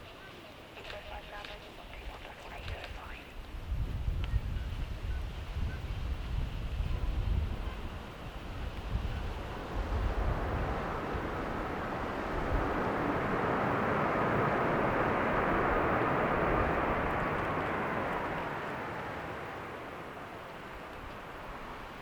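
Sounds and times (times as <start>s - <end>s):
faint engine whine: 0.0s - 22.0s
jet airliner passing: 0.0s - 22.0s.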